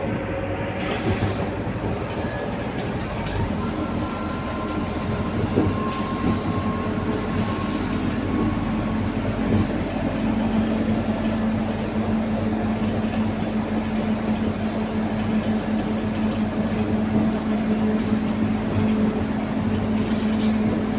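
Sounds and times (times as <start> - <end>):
bus diesel engine rumbling: 0.0 - 20.9.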